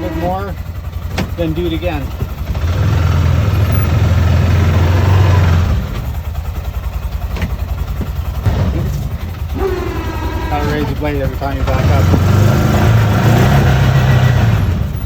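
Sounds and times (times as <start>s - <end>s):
engine running hard: 0.0s - 15.0s.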